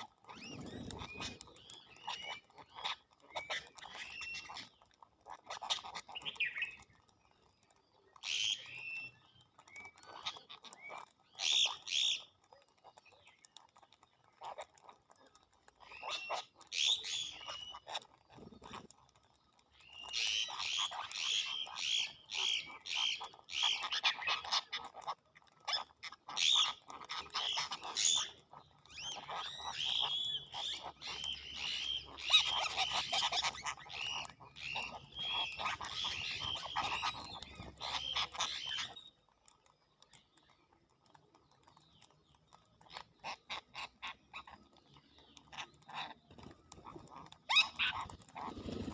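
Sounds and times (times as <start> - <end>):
birds chattering harshly: 0.0 - 48.9.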